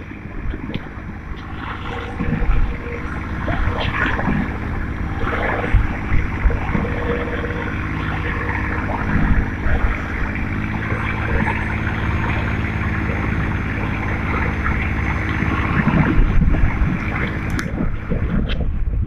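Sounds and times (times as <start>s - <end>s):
boat engine running: 0.0s - 19.0s
water noise: 0.0s - 19.0s
wind: 0.0s - 19.0s.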